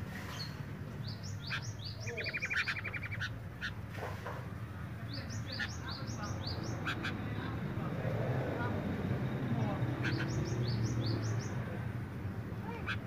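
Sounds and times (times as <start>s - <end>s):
birds chirping: 0.1s - 13.0s.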